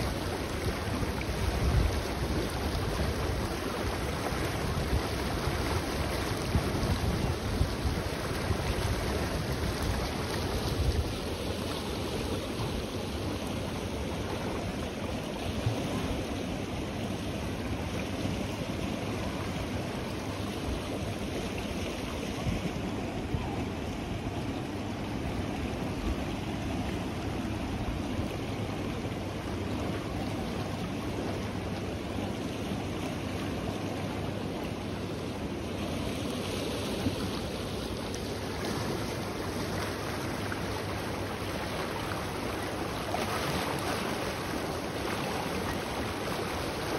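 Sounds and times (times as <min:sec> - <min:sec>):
turbulent river water rushing: 0:00.0 - 0:46.9.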